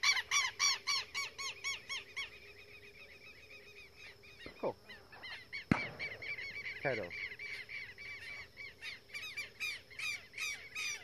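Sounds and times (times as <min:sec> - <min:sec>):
shrill bird alarm calls: 0:00.0 - 0:11.0.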